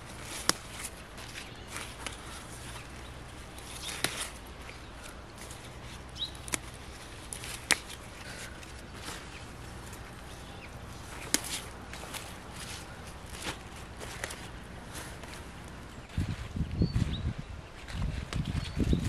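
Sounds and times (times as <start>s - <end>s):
stems snapping: 0.0s - 15.8s
leaves rustling: 0.0s - 19.0s.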